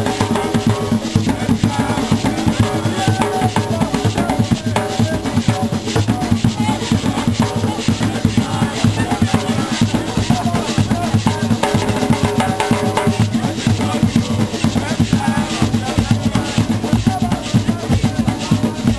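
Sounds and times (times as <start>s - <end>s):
djembe hand drums playing: 0.0s - 18.9s.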